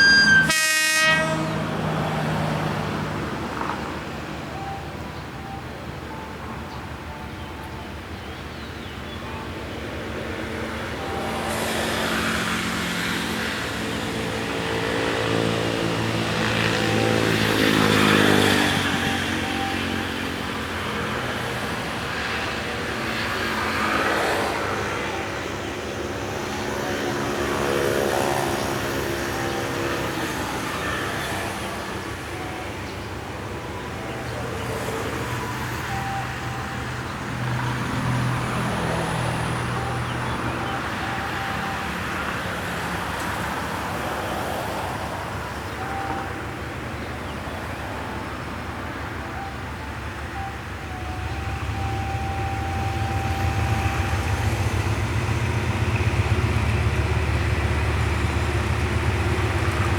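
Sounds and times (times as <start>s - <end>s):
motor engines running: 0.0s - 59.9s.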